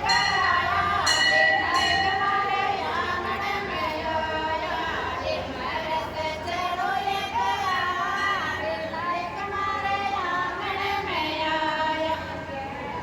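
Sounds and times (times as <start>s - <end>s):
high voices singing folk song: 0.0s - 13.0s.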